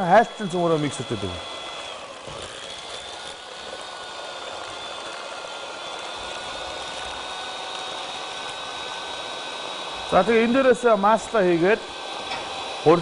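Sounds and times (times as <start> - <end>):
electric hand mixer whirring: 0.0 - 13.0.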